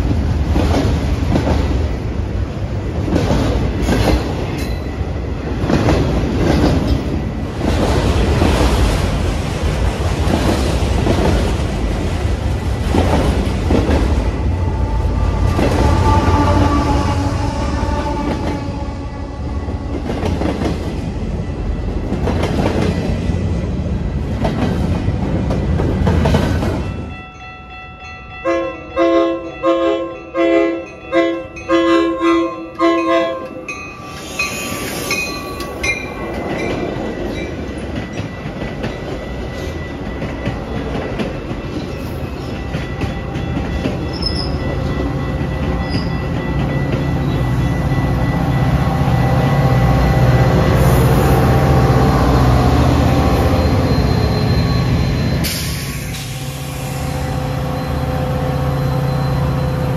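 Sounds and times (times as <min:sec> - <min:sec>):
train rumbling past: 0:00.0 - 0:30.2, 0:30.8 - 0:59.9
railway warning signal pulses: 0:10.2 - 0:59.9.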